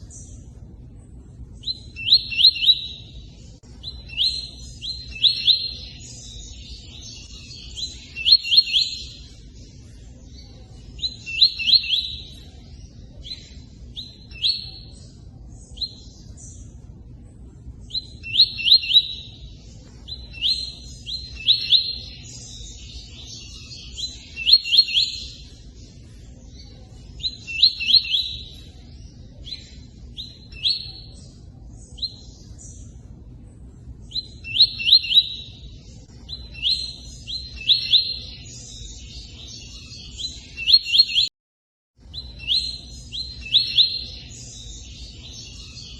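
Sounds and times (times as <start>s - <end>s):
bird singing whistled notes: 1.6s - 16.8s, 17.8s - 33.0s, 34.0s - 41.3s, 42.1s - 45.9s.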